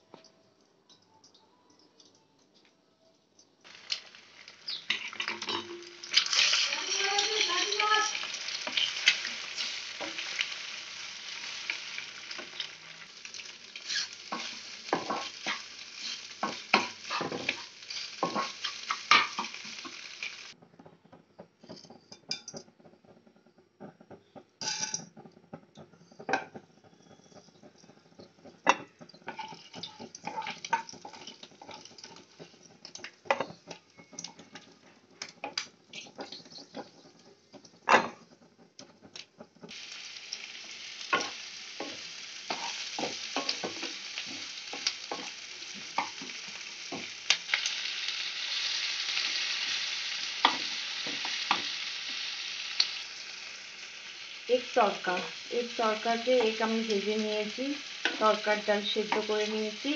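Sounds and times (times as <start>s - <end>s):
egg sizzling in pan: 3.6s - 20.6s, 22.3s - 59.9s
seeds sizzling in hot oil: 3.6s - 20.6s, 25.8s - 59.9s.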